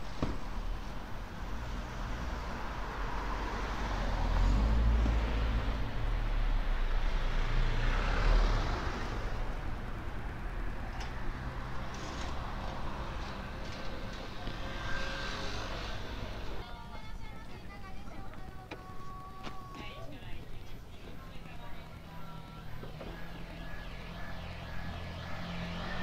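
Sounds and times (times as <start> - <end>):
truck passing: 0.0 - 17.0, 20.8 - 26.0
road traffic passing: 0.0 - 26.0.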